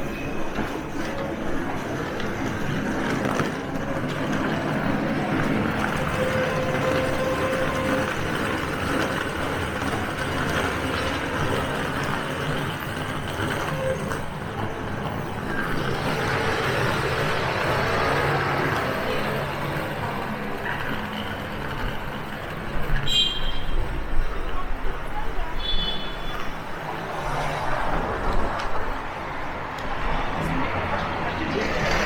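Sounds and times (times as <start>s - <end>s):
faint voices: 0.0s - 23.1s, 23.7s - 32.0s
passing traffic: 0.0s - 32.0s.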